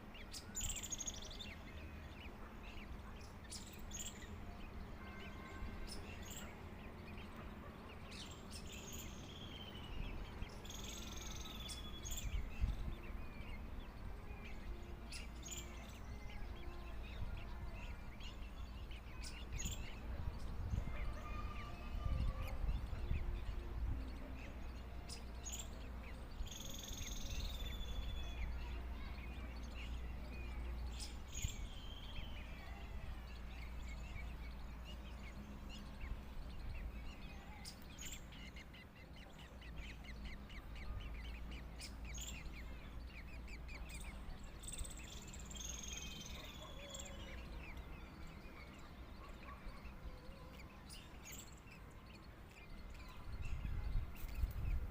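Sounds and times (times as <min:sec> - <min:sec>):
birds calling and chirping: 0:00.0 - 0:54.9.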